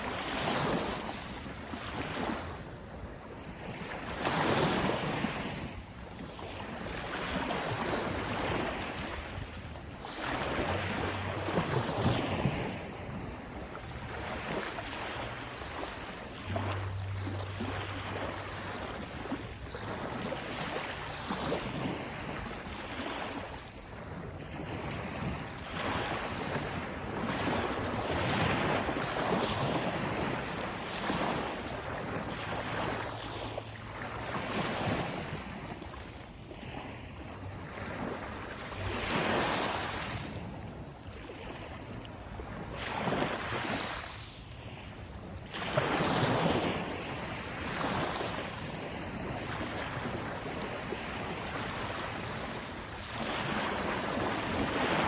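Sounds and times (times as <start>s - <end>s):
sea waves washing in: 0.0s - 55.0s
wind buffeting microphone: 0.0s - 55.0s.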